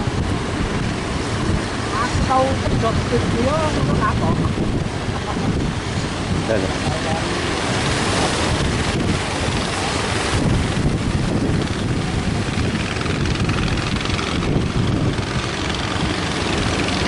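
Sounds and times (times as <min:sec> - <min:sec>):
heavy surf: 0:00.0 - 0:17.0
wind rumbling on microphone: 0:00.0 - 0:17.0.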